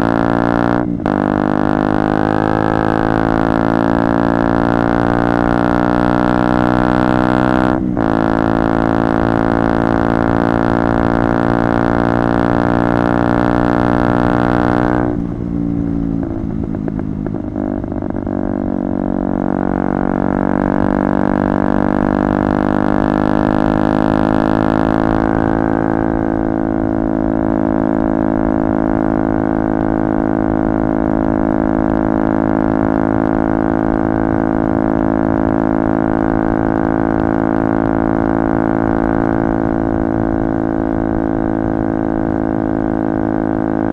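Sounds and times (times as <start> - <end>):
motorcycle engine running loud: 0.0 - 43.9.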